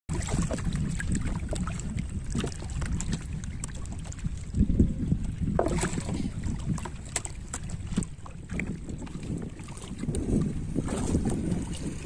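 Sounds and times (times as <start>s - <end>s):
river water splashing and lapping: 0.1s - 12.0s
wind rumbling on microphone: 0.1s - 12.0s.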